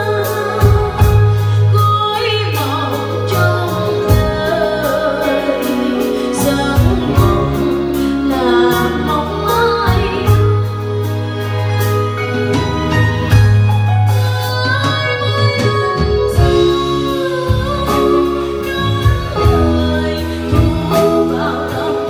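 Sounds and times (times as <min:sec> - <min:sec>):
woman singing into a microphone: 0:00.0 - 0:12.6, 0:13.2 - 0:22.0
live band playing: 0:00.0 - 0:22.0
steady bass: 0:00.0 - 0:22.0.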